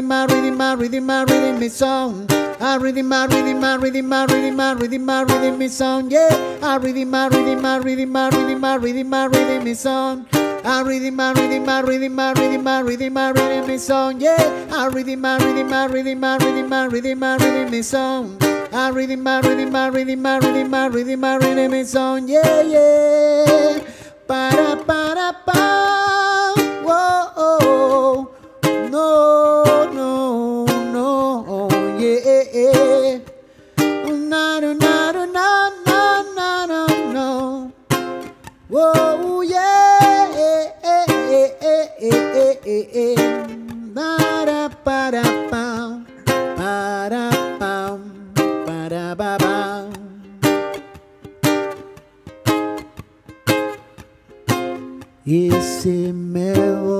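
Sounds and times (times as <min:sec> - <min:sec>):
man singing a slow song: 0:00.0 - 0:50.9, 0:54.8 - 0:56.9
acoustic string instrument strummed: 0:00.0 - 0:56.9.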